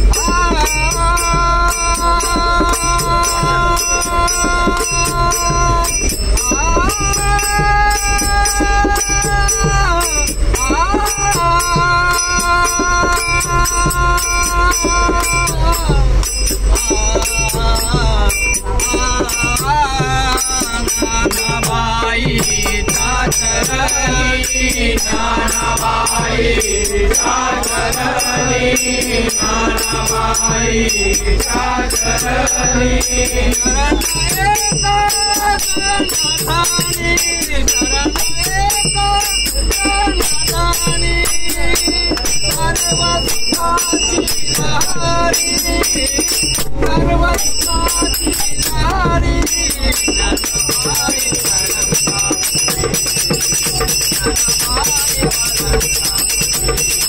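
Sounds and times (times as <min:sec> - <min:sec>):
brass hand cymbals struck: 0:00.0 - 0:57.0
men singing devotional song: 0:00.0 - 0:57.0.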